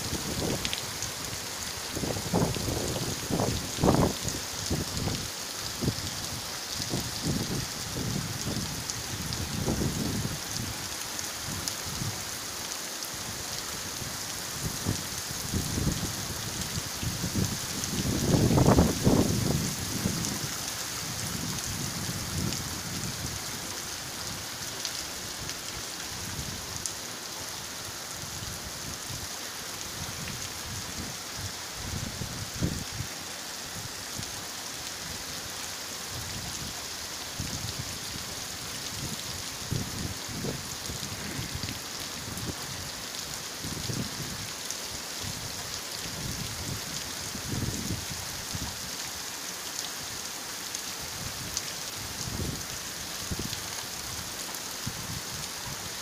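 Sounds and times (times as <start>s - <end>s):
rain splashing on pavement: 0.0s - 56.0s.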